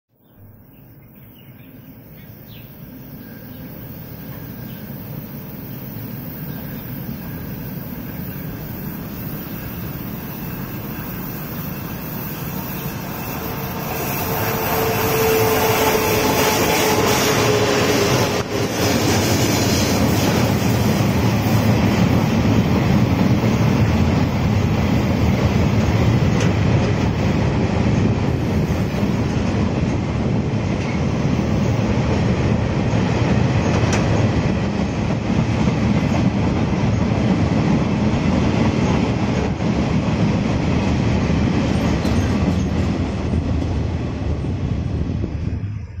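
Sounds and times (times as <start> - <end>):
train wheels rumbling on rails: 1.6 - 46.0.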